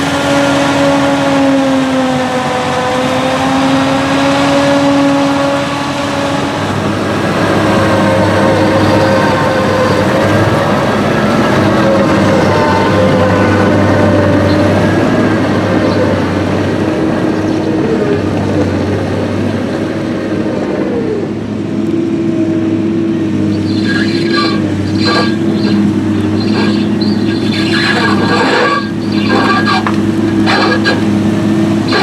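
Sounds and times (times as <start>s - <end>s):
diesel machinery running: 0.0s - 32.0s.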